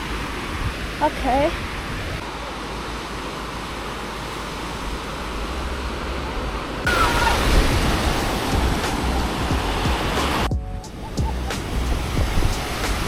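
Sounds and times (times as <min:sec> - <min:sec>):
sea surf washing on beach: 0:00.0 - 0:13.0.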